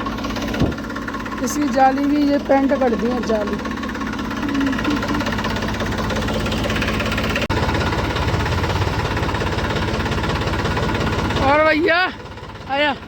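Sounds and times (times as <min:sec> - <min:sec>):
diesel tractor engine idling: 0:00.0 - 0:13.0.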